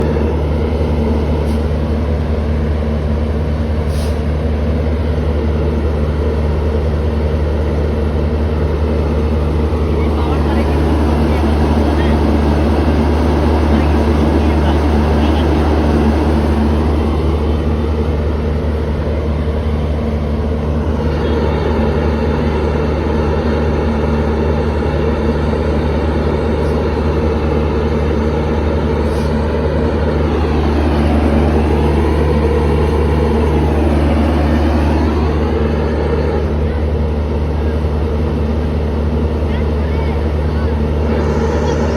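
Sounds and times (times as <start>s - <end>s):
diesel locomotive engine pulsing hum: 0.0s - 41.9s.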